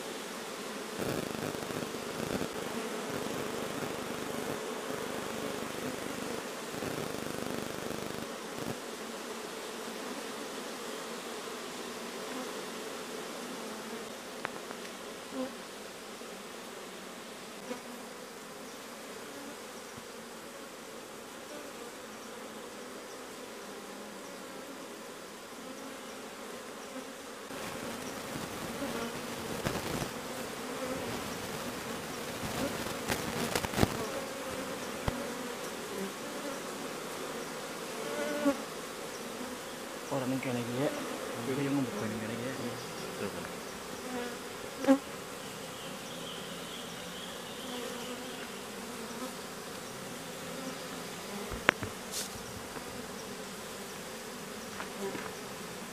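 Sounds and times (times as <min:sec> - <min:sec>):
bees buzzing: 0:00.0 - 0:55.9.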